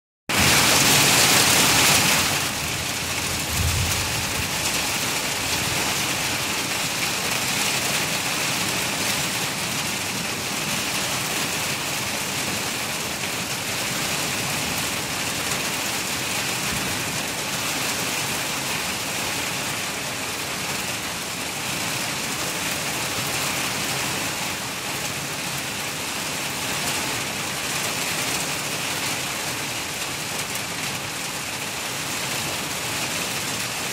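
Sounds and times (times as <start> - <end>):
heavy rain falling: 0.3 - 33.9.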